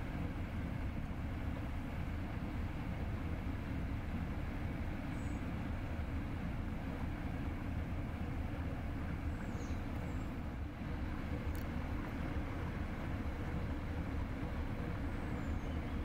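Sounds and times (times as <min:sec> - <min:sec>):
cargo vessel diesel engine rumble: 0:00.0 - 0:16.0.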